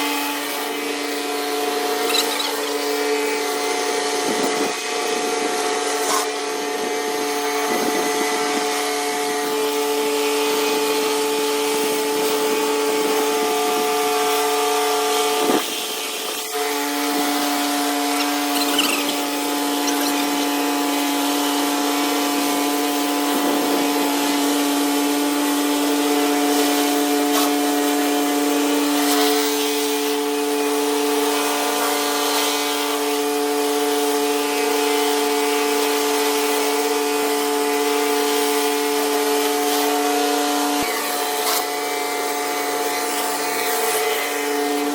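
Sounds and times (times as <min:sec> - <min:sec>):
pressure washer machine hum: 0:00.0 - 0:44.9.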